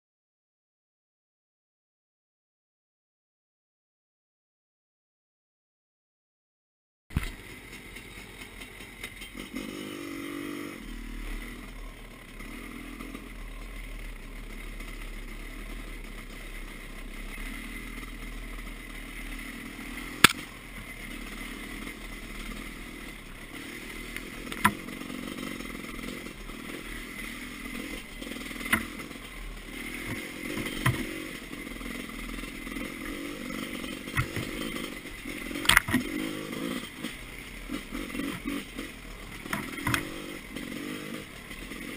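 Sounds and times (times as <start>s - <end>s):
knocks and clatter over ruts: 7.1s - 41.9s
motorcycle engine running: 7.1s - 41.9s.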